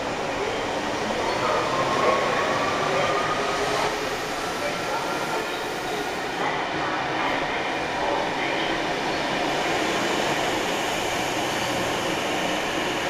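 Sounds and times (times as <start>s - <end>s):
electric train at station: 0.0s - 13.0s.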